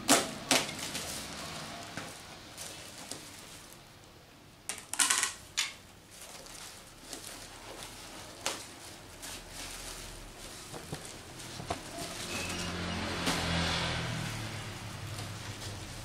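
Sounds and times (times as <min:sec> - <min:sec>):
loud crackles of wrapping: 0:00.0 - 0:04.0, 0:05.0 - 0:16.0
wrapping rustling and crinkling: 0:00.2 - 0:04.0, 0:05.4 - 0:16.0.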